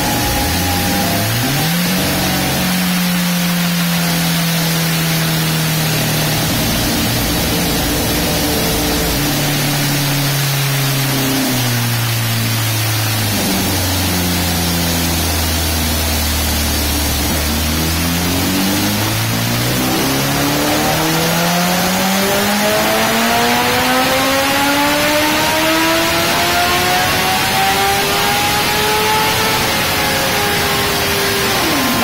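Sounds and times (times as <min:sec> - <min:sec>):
loud steady rushing noise: 0:00.0 - 0:32.0
motorcycle engine on dyno: 0:00.0 - 0:32.0.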